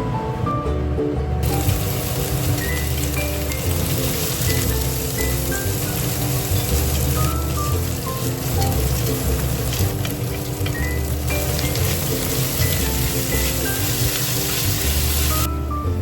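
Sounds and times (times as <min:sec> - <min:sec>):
light melodic background music: 0:00.0 - 0:16.0
food sizzling in frying pan: 0:01.4 - 0:15.5.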